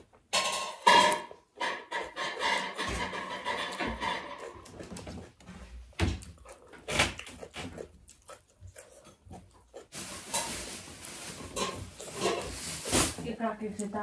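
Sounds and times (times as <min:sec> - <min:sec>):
wet eating sounds: 0:00.8 - 0:14.0.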